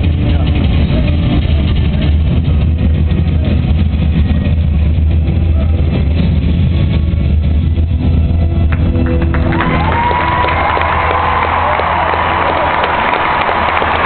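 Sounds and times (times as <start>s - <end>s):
crowded indoor arena hubbub: 0.0s - 14.0s.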